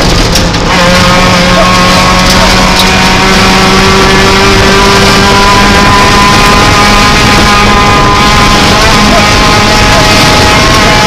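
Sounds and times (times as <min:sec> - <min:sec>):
car engine at high revs: 0:00.0 - 0:11.0
road noise: 0:00.0 - 0:11.0.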